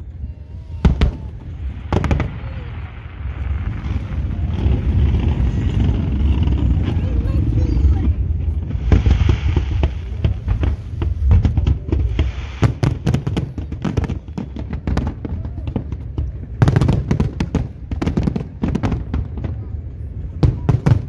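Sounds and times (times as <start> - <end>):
fireworks bursting with sharp bangs: 0.0 - 21.0
low rumble: 0.0 - 21.0.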